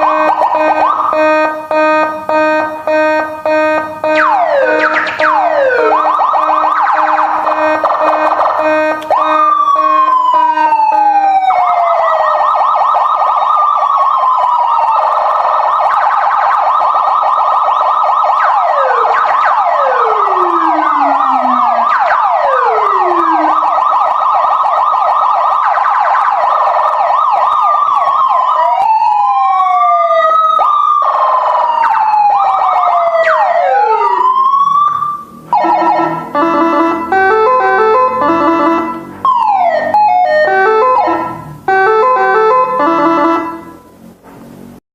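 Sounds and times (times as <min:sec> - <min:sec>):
electronic siren through loudspeaker: 0:00.0 - 0:44.7.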